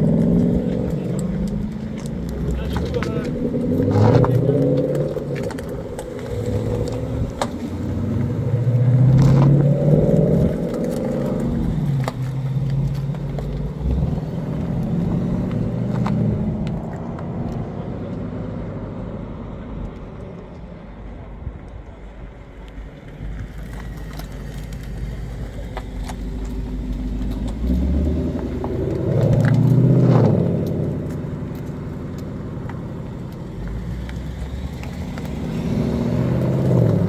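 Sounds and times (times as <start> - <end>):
car engines pulling away: 0.0 - 37.0.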